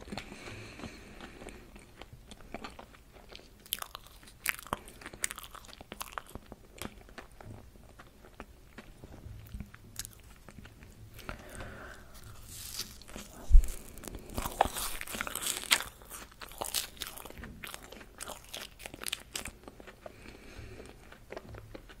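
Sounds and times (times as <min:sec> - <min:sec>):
marshmallows being chewed: 0:00.0 - 0:22.0.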